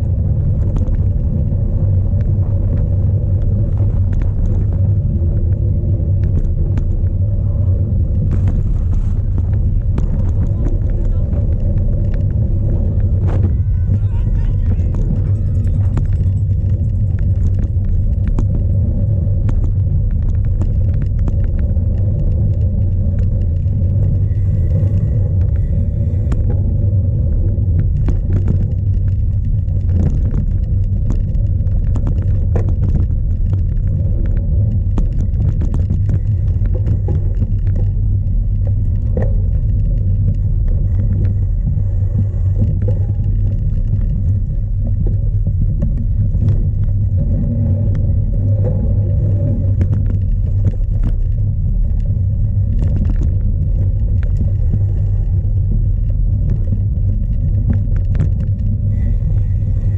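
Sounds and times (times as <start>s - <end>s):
bike rattling over rough ground: 0.0s - 59.9s
wind buffeting microphone: 0.0s - 59.9s.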